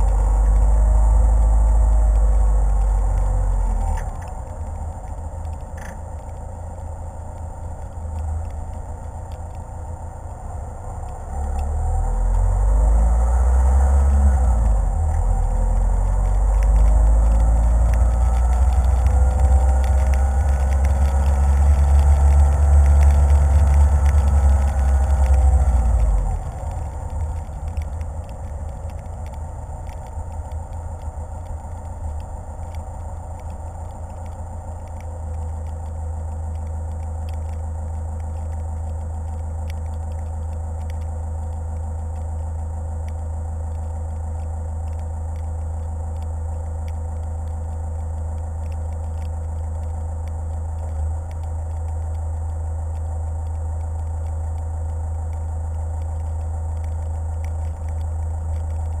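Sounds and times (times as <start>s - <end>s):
car engine driving: 0.0s - 59.0s.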